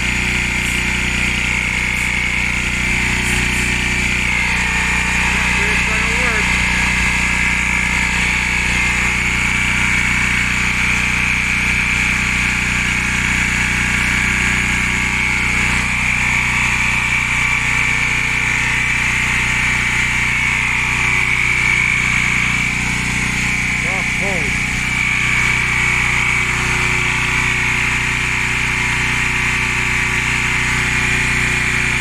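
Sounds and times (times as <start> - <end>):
air compressor running: 0.0 - 32.0.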